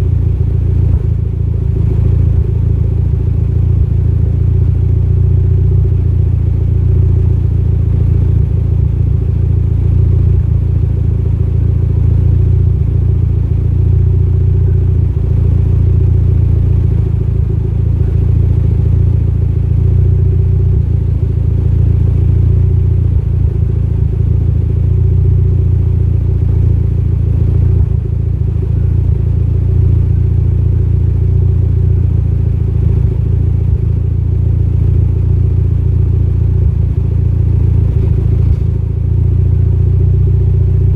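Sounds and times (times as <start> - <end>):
car engine idling with misfire: 0.0 - 40.9.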